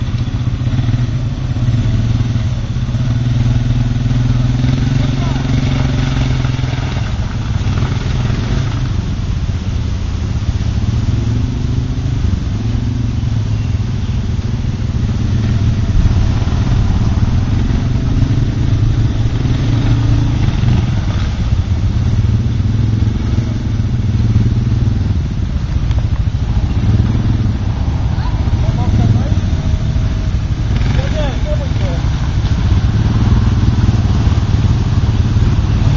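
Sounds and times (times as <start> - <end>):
atv engines at low revs: 0.0 - 35.9.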